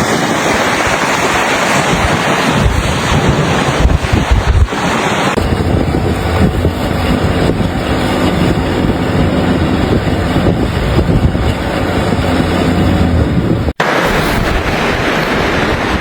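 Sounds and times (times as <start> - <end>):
vehicle engine and road drone: 0.0 - 16.0
wind blowing on microphone: 0.0 - 16.0.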